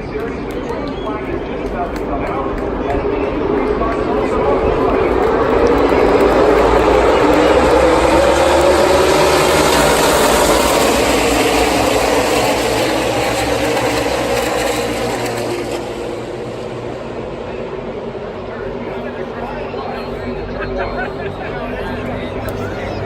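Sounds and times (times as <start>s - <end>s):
race cars passing at full throttle: 0.0s - 23.0s.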